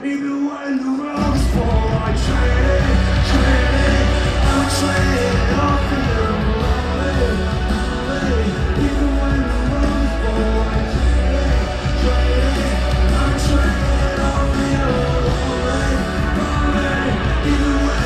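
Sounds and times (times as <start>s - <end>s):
live rock band: 0.0s - 18.0s
person singing: 0.0s - 18.0s.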